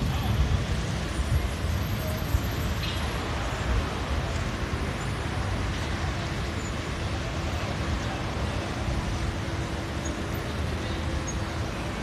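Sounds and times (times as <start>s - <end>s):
urban traffic roar: 0.0s - 12.0s.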